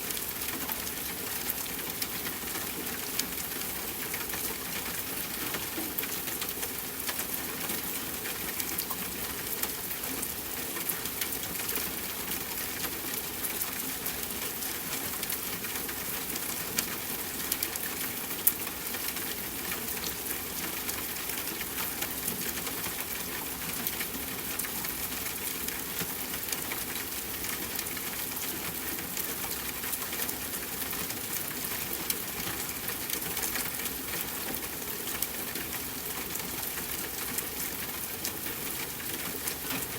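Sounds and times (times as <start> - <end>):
soft rainfall: 0.0 - 39.9.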